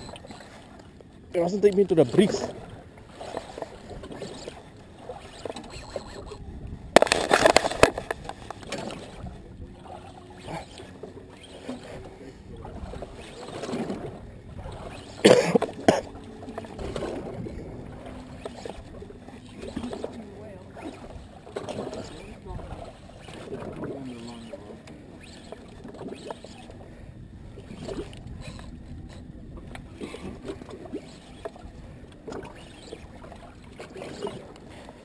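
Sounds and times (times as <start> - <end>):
water lapping against boat hull: 0.0 - 35.0.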